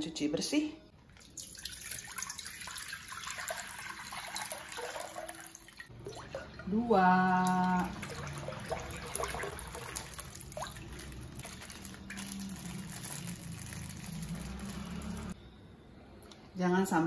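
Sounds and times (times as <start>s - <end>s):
liquid pouring and splashing: 1.0s - 15.4s.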